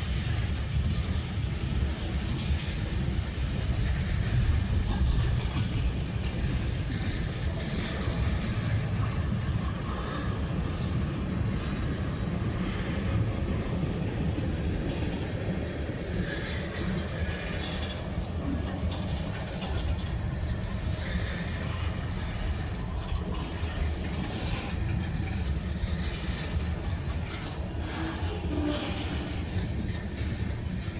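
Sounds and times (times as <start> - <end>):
freight train cars rolling: 0.0 - 30.9.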